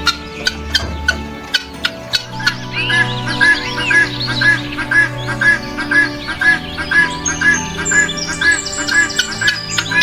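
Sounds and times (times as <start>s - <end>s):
sustained tones music: 0.0s - 10.0s.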